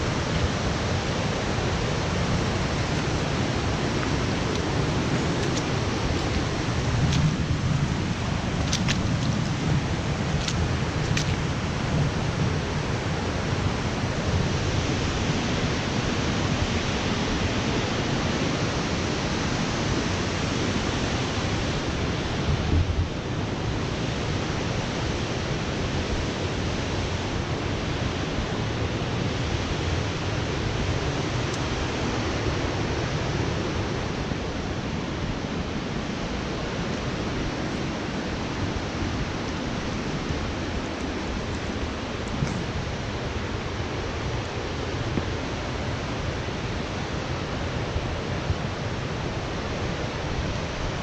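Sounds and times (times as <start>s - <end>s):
river and waterfall rushing: 0.0s - 51.0s.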